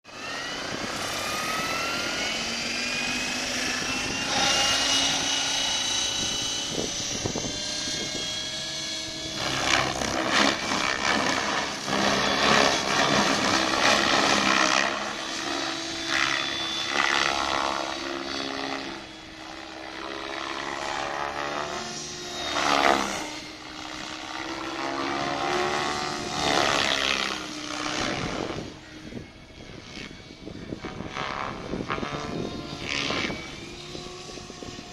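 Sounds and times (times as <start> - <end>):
rc helicopter motor and rotor whine: 0.0 - 34.9.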